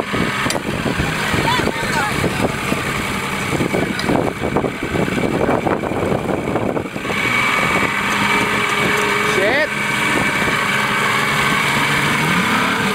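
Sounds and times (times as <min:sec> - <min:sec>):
boat engine running: 0:00.0 - 0:12.9
rumbling water and wind: 0:00.0 - 0:12.9.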